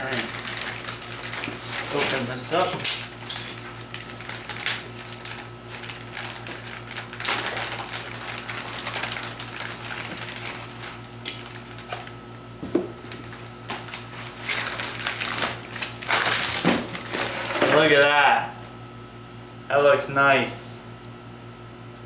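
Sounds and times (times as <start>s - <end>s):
packing paper and foam rustling: 0.0s - 18.1s.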